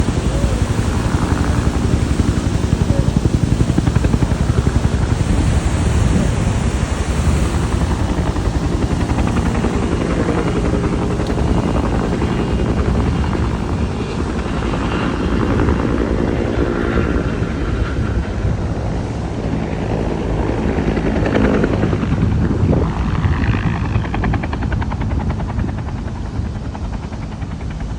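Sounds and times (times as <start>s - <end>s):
helicopter rotor and engine: 0.0s - 27.9s.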